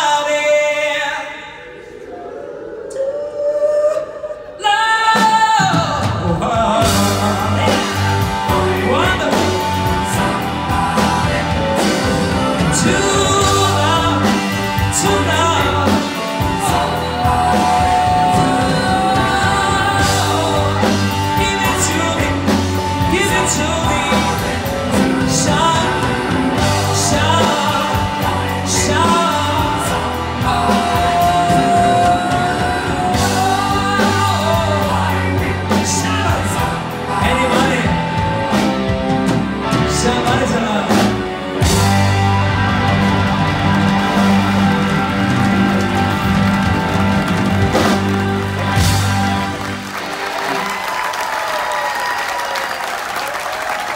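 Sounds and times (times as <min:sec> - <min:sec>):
drums: 0:00.0 - 0:02.1, 0:03.6 - 0:53.9
man singing: 0:00.0 - 0:44.9
electric guitar: 0:05.7 - 0:53.0.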